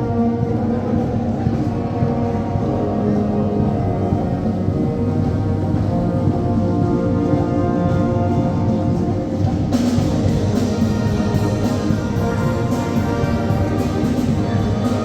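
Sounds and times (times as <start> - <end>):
brass band playing chords: 0.0 - 15.0
percussion beat: 0.0 - 15.0.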